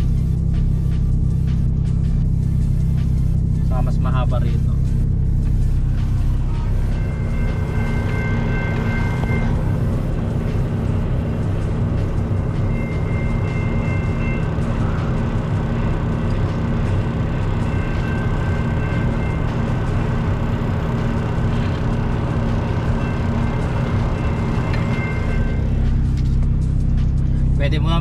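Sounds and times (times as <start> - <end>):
freight train rumbling past: 0.0 - 28.0
truck engine humming: 0.0 - 28.0.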